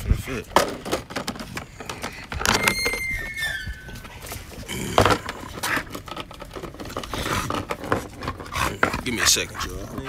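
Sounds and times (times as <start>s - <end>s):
rustling and clicking: 0.4s - 10.0s.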